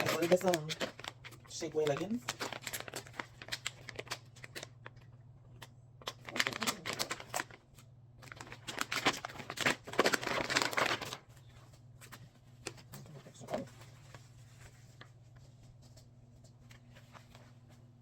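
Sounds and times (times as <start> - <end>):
plastic packaging crinkling: 0.0 - 15.2.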